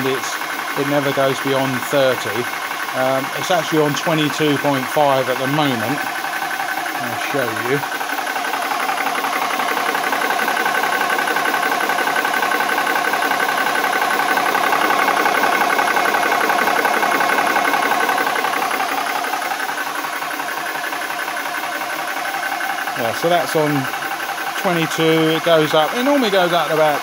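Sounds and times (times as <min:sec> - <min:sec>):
air compressor humming: 0:00.0 - 0:27.0.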